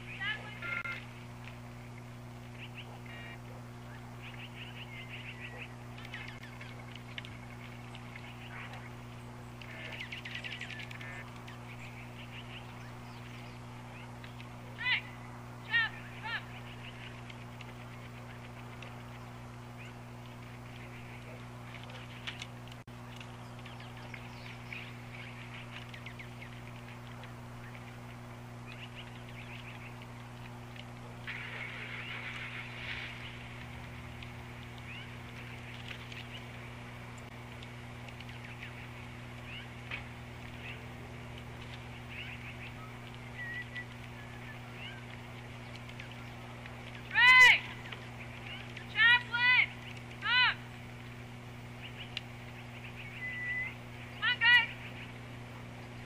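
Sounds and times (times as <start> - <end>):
small birds chirping: 0.0 - 56.0
steady low hum: 0.0 - 56.0.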